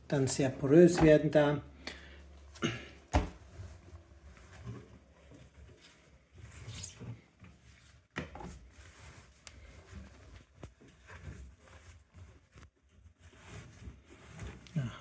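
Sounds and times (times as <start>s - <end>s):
rubbing and rustling of wet laundry: 0.0s - 15.0s.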